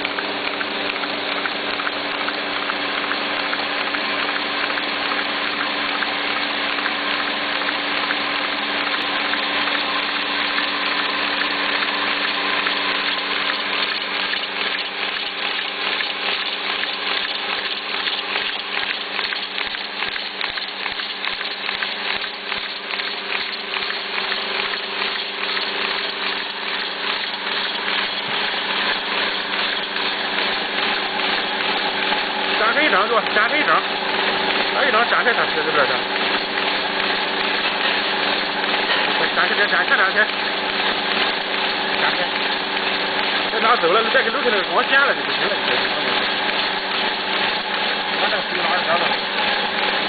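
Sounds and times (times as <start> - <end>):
fast fine roller ticking: 0.0 - 50.0
paper folding machine whirring: 0.0 - 50.0.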